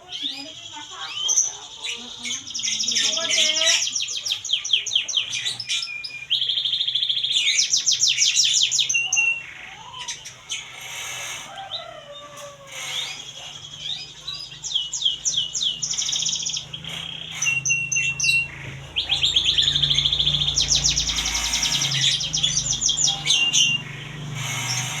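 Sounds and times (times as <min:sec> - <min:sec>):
songbird chirps and trills: 0:00.0 - 0:25.0.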